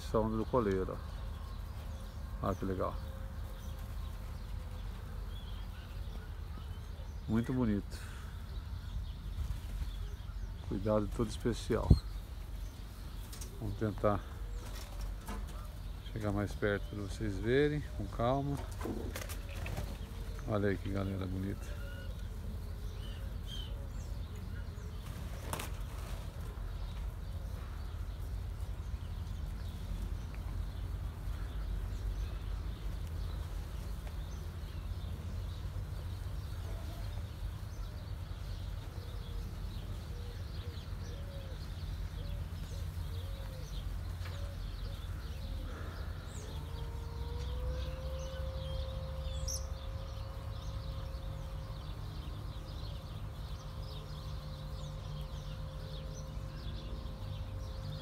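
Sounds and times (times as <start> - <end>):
soft low bird calls: 0.0 - 58.0.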